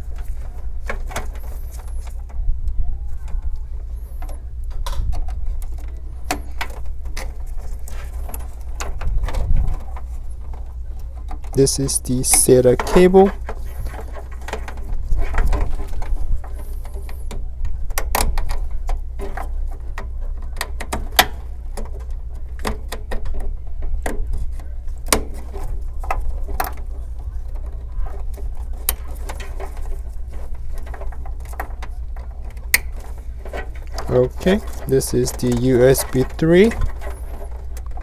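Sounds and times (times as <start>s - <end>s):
cables clicking and rustling: 0.0s - 38.0s
steady low hum: 0.0s - 38.0s.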